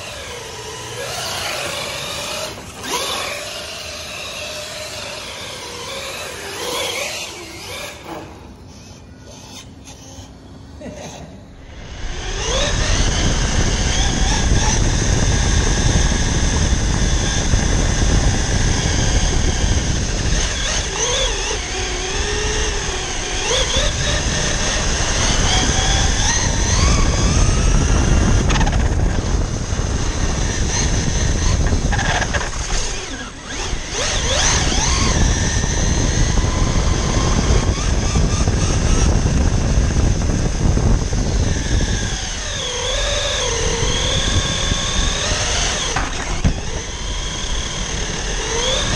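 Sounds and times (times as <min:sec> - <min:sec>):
electric motor whining: 0:00.0 - 0:10.6, 0:11.6 - 0:48.9.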